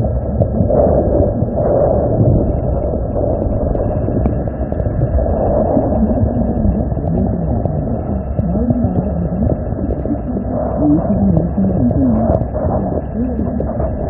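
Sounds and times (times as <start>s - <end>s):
muffled underwater river rumble: 0.0s - 14.0s.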